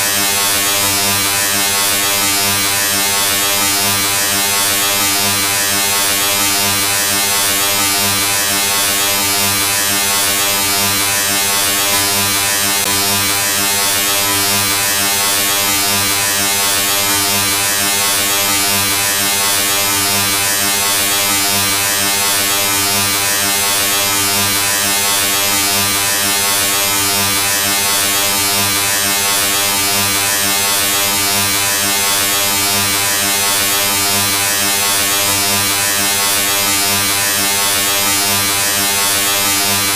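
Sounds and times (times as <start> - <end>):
harsh electric buzz: 0.0 - 39.9.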